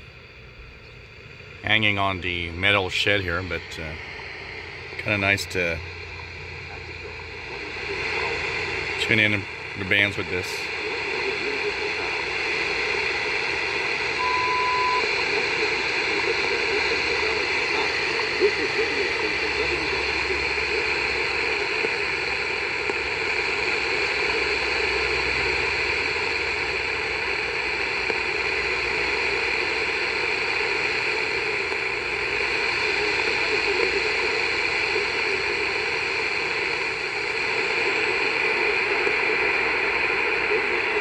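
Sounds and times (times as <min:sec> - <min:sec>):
shortwave radio static: 0:00.0 - 0:41.0.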